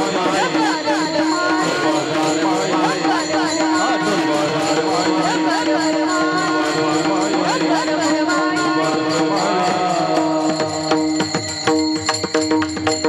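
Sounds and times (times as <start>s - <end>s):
cymbals and drum beat: 0.0s - 13.0s
person singing ornamented lines: 0.0s - 13.0s.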